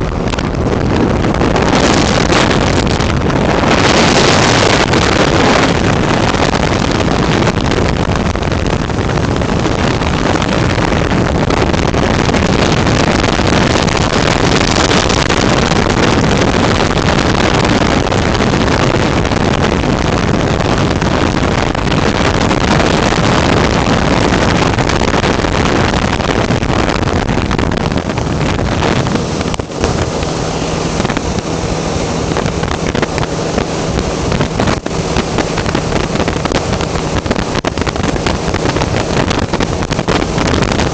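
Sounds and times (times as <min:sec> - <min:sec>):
aircraft engine drone: 0:00.0 - 0:40.9
wind buffeting microphone: 0:00.0 - 0:40.9.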